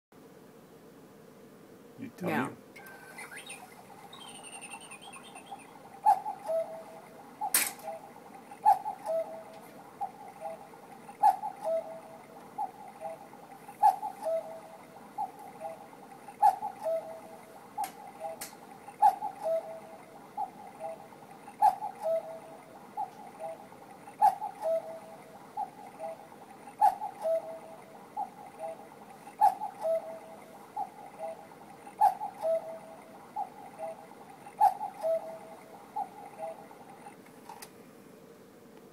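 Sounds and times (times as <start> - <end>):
cuckoo clock calling: 2.8 - 37.2
clock works clicking: 6.0 - 37.2.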